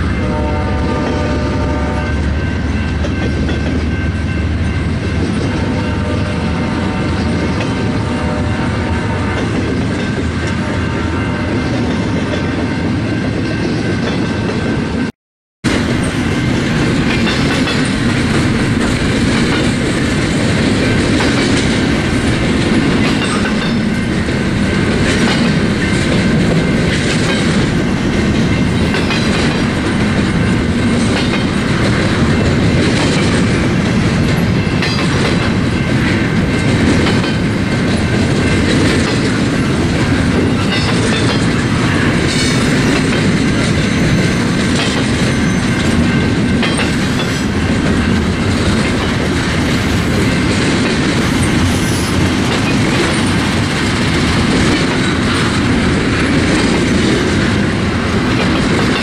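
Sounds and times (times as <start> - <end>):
train wheels clicking over rail joints: 1.0 - 8.3, 15.7 - 59.0.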